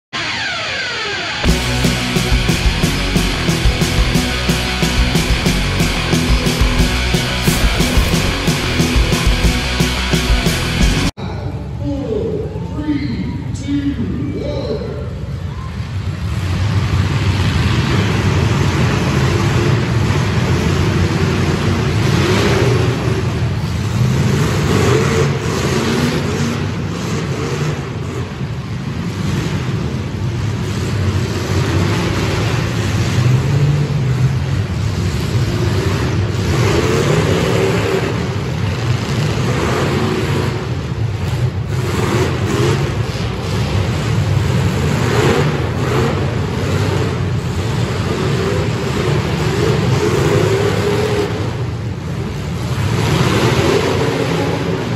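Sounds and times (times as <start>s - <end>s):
car engines revving: 0.0s - 11.2s, 15.1s - 54.9s.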